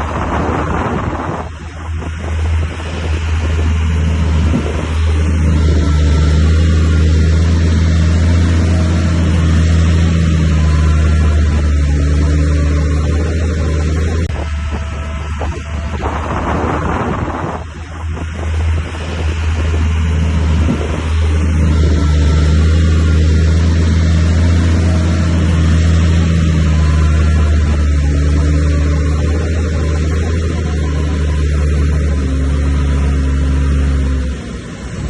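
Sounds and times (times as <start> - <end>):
heavy diesel engine drone: 0.0 - 35.0.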